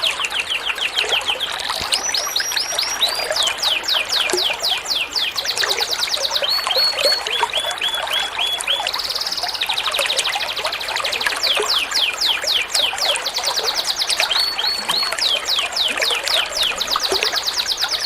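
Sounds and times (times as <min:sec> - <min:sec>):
songbird whistles and chirps: 0:00.0 - 0:18.0.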